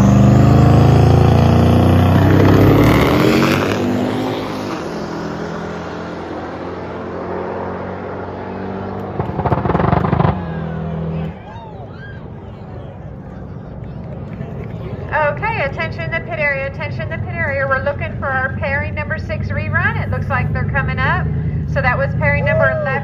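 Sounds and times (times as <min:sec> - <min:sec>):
exhaust crackling: 0:00.0 - 0:07.3, 0:08.0 - 0:11.6, 0:13.0 - 0:23.0
drag car engine roaring: 0:00.0 - 0:23.0.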